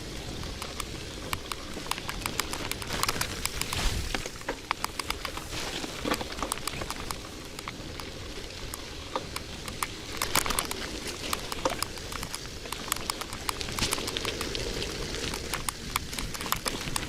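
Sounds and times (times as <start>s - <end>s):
bicycle tyres on dirt track: 0.0s - 17.0s
small clicks and crackles: 0.0s - 17.0s.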